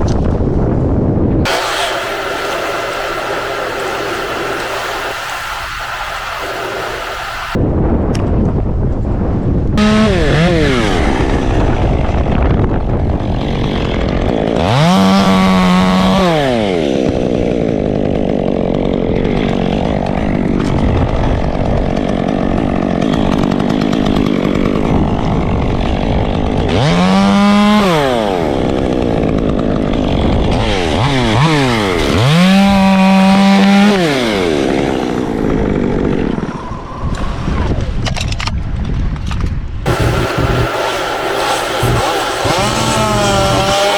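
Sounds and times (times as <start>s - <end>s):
chainsaw revving: 1.5s - 7.6s, 9.8s - 12.2s, 13.2s - 36.4s, 39.9s - 43.9s.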